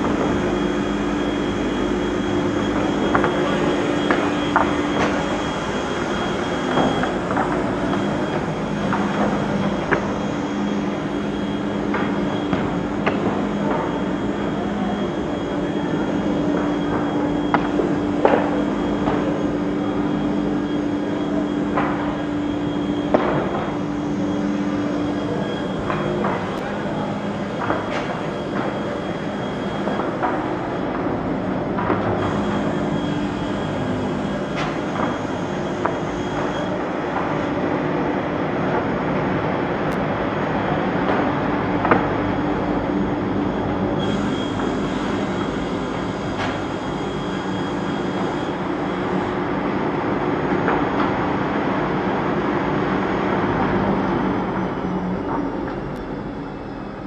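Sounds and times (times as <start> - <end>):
circular saw line humming: 0.0 - 50.5.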